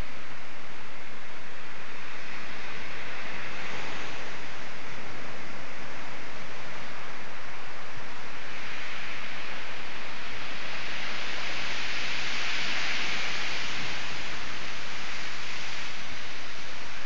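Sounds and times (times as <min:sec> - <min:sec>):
strong wind: 0:00.0 - 0:17.0.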